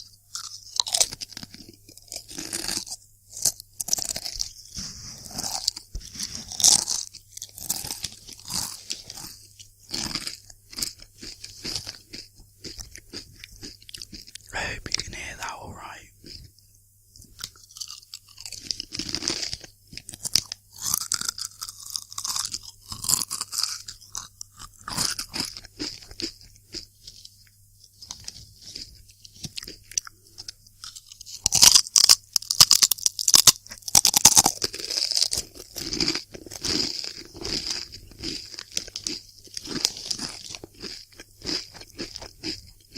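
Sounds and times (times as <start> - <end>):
crunching and chewing crisps: 0.0 - 42.9.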